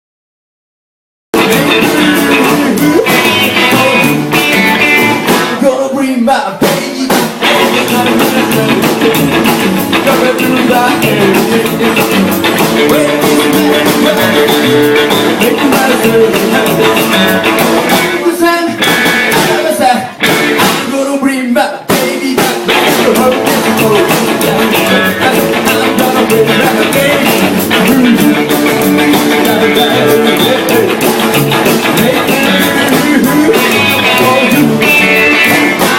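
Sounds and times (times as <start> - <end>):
rock band playing: 1.3 - 21.2, 21.8 - 35.9
electric guitar: 1.4 - 6.0, 6.6 - 21.1, 21.8 - 35.9.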